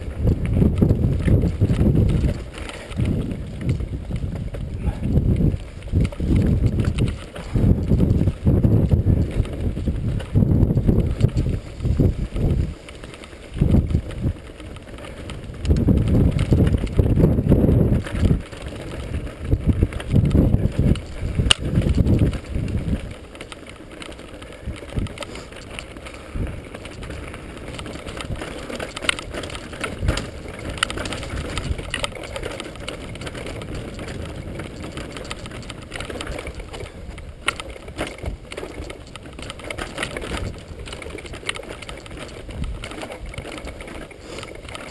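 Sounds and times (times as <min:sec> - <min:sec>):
bike rattling over stones: 0:00.0 - 0:44.9
wind buffeting microphone: 0:00.0 - 0:44.9.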